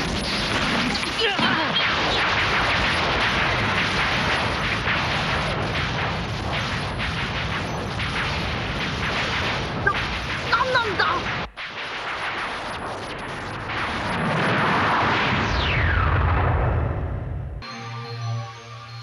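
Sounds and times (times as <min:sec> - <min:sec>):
sharp cracks: 0:00.0 - 0:16.7
blasts and electric crackling: 0:00.0 - 0:17.6
steady low rumble: 0:00.0 - 0:17.6.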